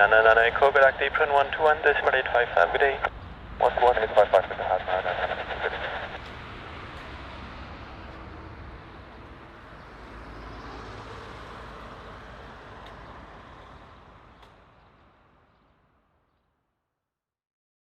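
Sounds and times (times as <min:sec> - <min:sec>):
distant jet engines rumbling: 0:00.0 - 0:15.6.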